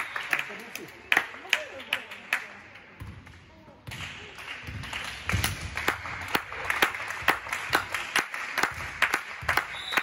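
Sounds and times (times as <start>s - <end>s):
applause: 0.0s - 2.8s, 4.0s - 10.0s
rhythmic clapping: 0.0s - 2.9s, 3.9s - 10.0s.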